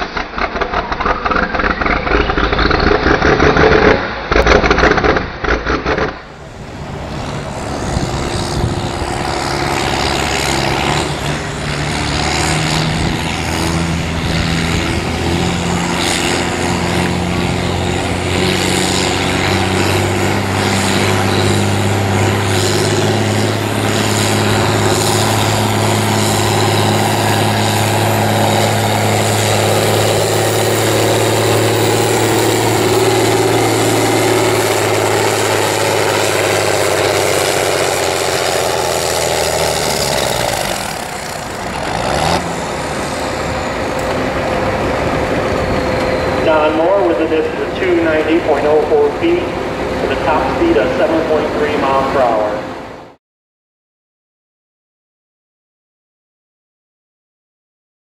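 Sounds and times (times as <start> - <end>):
tractor diesel engine at full throttle: 0.0 - 53.2.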